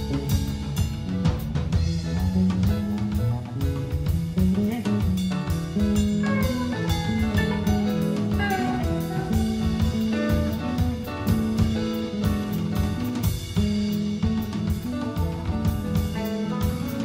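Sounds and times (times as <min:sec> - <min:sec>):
bass notes: 0:00.0 - 0:17.0
drum kit beat: 0:00.0 - 0:17.0
live band playing: 0:00.0 - 0:17.0
sliding lead melody: 0:00.0 - 0:17.0.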